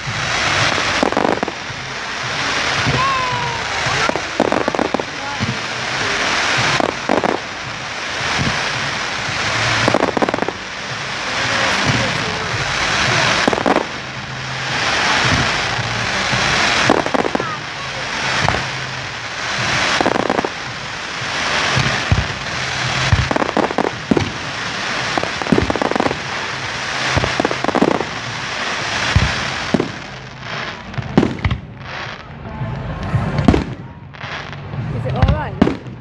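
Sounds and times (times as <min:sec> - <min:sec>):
fireworks crackle and hiss: 0:00.0 - 0:36.0.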